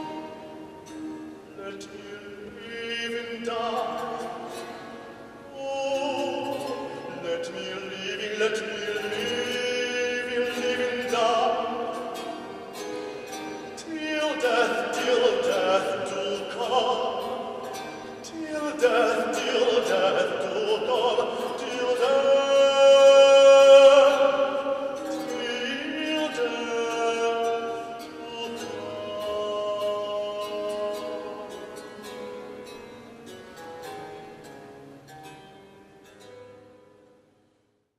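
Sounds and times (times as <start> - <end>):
man singing with vibrato: 0.0 - 35.6.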